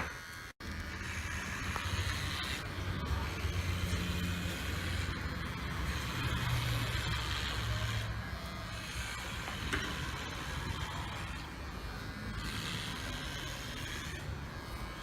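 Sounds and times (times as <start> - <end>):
hair clipper motor hum: 0.0 - 15.0.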